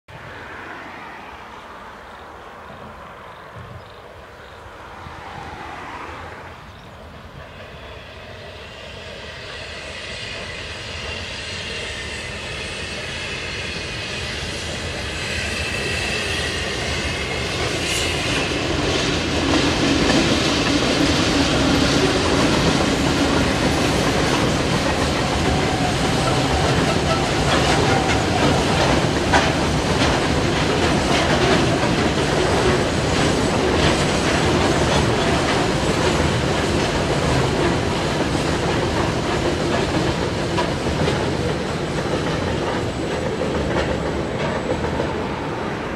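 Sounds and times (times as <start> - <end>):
diesel locomotive engines: 0.1 - 45.9
train wheels clickety-clack: 6.8 - 45.9.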